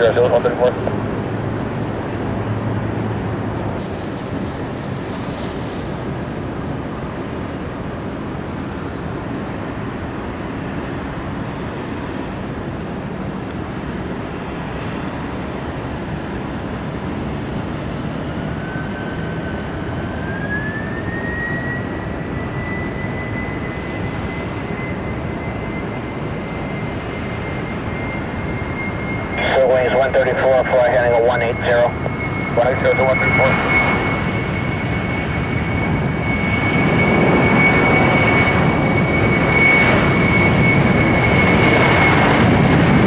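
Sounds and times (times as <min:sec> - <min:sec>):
jet engine whine: 0:00.0 - 0:43.0
jet engines roaring: 0:00.0 - 0:43.0.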